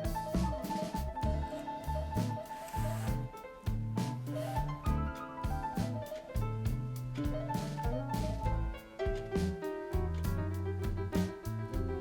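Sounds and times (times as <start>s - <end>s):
jazz piano bass and drums: 0.0s - 12.0s.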